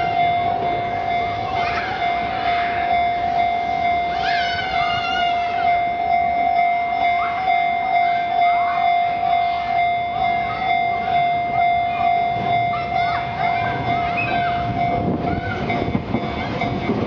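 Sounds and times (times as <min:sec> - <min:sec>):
level crossing warning bell: 0:00.0 - 0:17.0
low rumble of train: 0:00.0 - 0:17.0.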